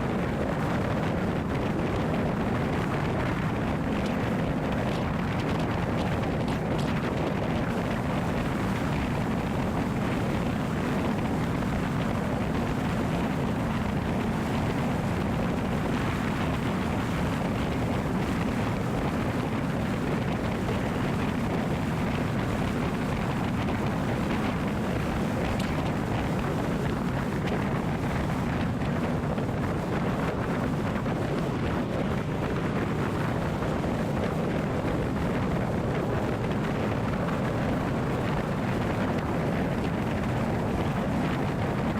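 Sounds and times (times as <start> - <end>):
vehicle low rumble: 0.0 - 41.9.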